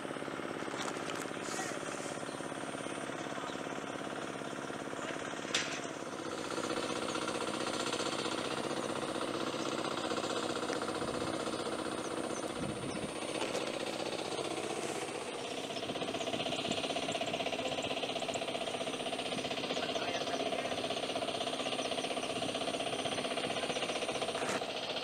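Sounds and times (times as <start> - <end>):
small engine running: 0.0 - 25.0.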